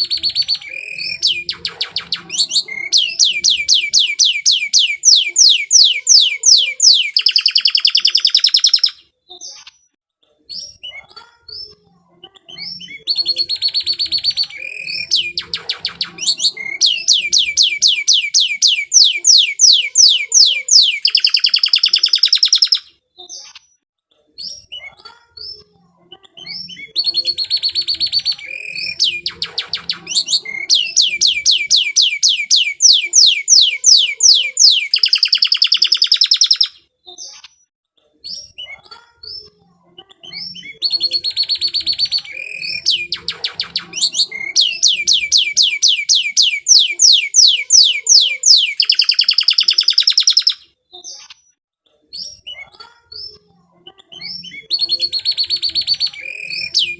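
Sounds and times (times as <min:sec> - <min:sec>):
canary singing trills: 0:00.0 - 0:09.9, 0:12.3 - 0:23.7, 0:26.2 - 0:37.5, 0:38.3 - 0:51.3, 0:52.2 - 0:56.9.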